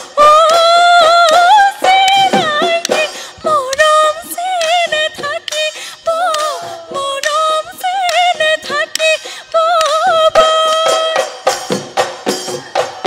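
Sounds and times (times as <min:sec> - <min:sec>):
woman singing: 0:00.0 - 0:11.5
drum strikes: 0:00.0 - 0:13.0.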